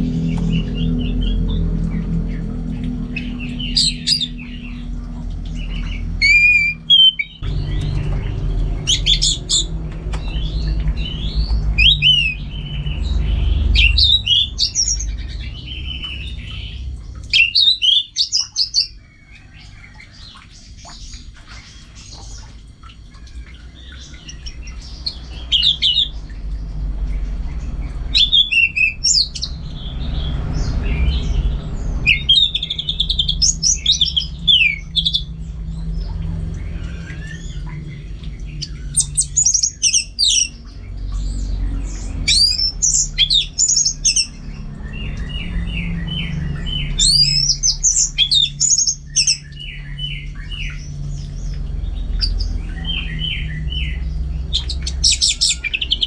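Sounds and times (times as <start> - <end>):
bird singing: 0.0 - 56.0
steady low hum: 0.0 - 56.0.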